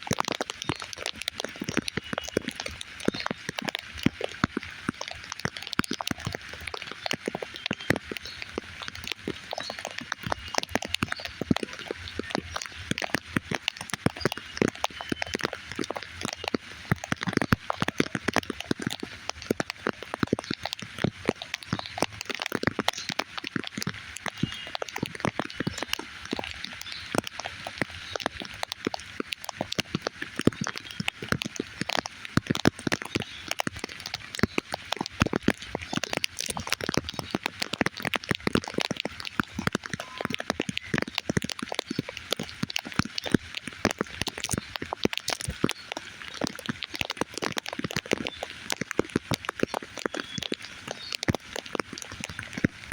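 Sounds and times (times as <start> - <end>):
raindrops striking a surface: 0.0 - 52.9.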